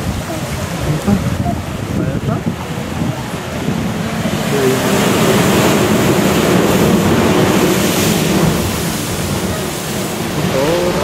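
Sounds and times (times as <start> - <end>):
seawater rushing through blowhole: 0.0 - 11.0.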